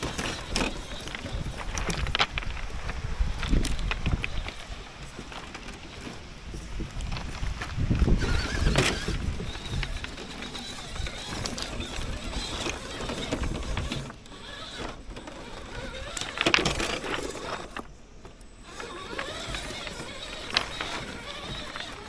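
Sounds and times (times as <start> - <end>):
pebbles crunching under tyres: 0.0 - 22.0.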